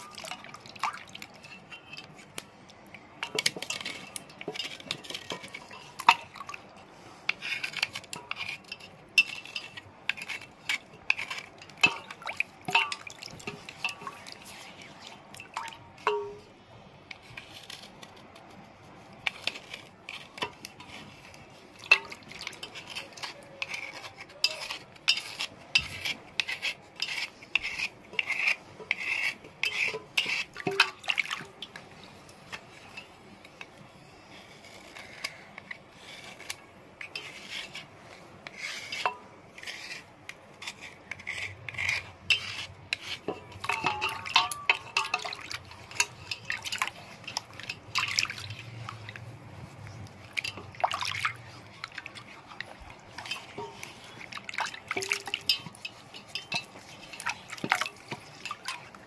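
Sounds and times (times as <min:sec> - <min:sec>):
knife blade scraping stone: 0:01.1 - 0:15.6, 0:17.1 - 0:59.0.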